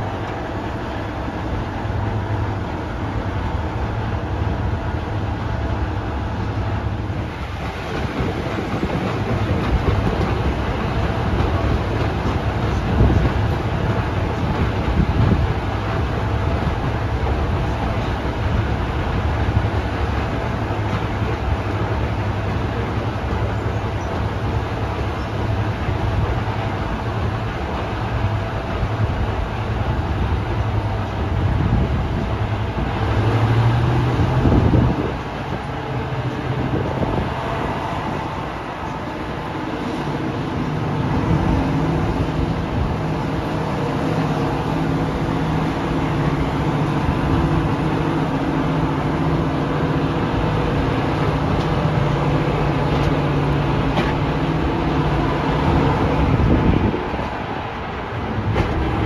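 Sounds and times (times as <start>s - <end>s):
locomotive diesel engines running: 0.0s - 59.0s
train wheels on rails: 0.0s - 59.0s.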